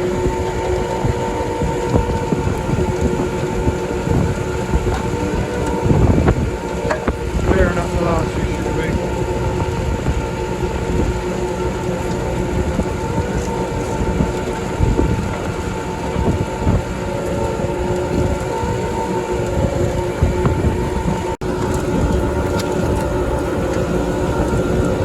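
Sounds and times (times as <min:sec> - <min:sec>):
farm machinery engine rumble: 0:00.0 - 0:25.0
steady whining tones: 0:00.0 - 0:25.0.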